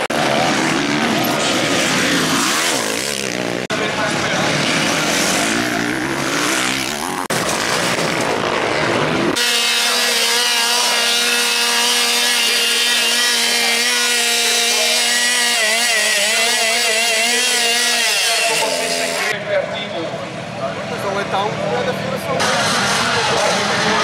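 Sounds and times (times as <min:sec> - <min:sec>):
chainsaw engine whine: 0:00.0 - 0:19.4
motocross bike engine revving: 0:00.0 - 0:19.4, 0:22.2 - 0:24.0.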